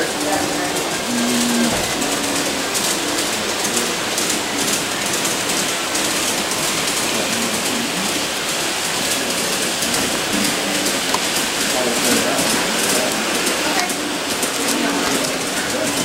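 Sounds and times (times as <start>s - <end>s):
faint voices: 0.0s - 16.0s
model train wheels rattling: 0.0s - 16.0s.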